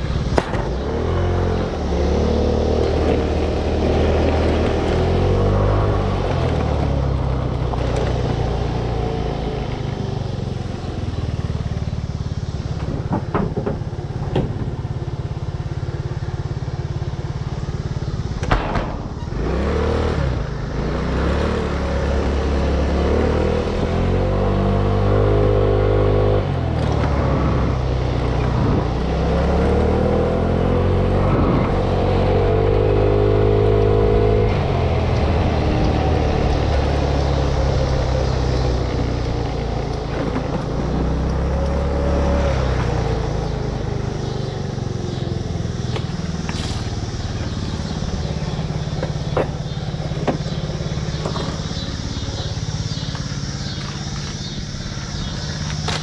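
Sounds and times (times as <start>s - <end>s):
vehicle engine accelerating: 0.0s - 56.0s.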